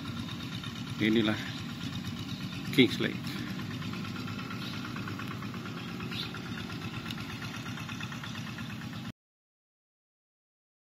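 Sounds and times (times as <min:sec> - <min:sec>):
tractor engine chugging: 0:00.0 - 0:09.1.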